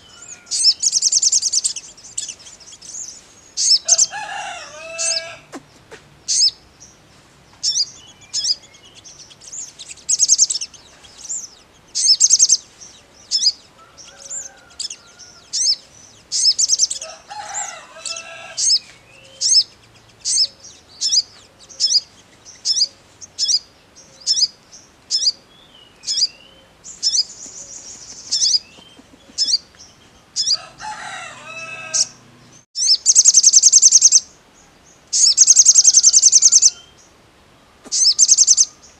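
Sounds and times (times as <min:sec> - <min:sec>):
bird chirping and trilling: 0:00.0 - 0:05.6, 0:06.2 - 0:07.0, 0:07.6 - 0:37.1, 0:37.9 - 0:38.9.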